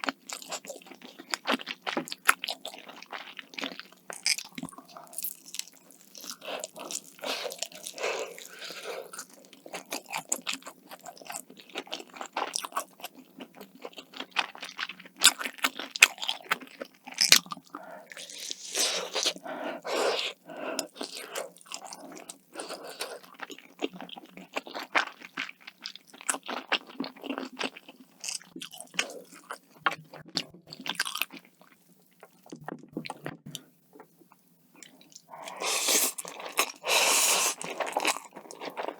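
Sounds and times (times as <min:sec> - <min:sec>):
crunching bites and chewing: 0:00.0 - 0:19.4, 0:20.2 - 0:33.3, 0:34.8 - 0:38.9.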